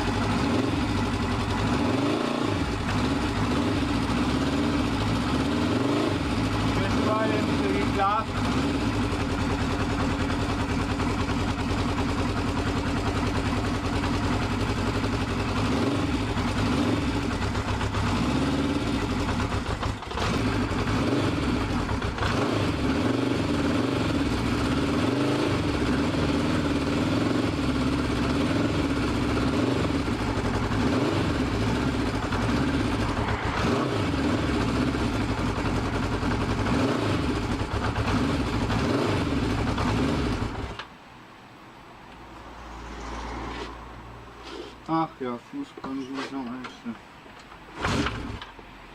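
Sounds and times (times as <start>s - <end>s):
motorcycle engine running: 0.0s - 40.8s.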